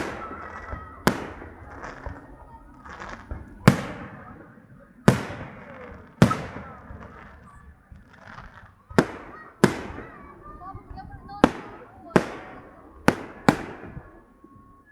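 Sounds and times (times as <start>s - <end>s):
faint fireworks pops: 0.0s - 14.9s
fireworks bangs: 0.0s - 14.9s.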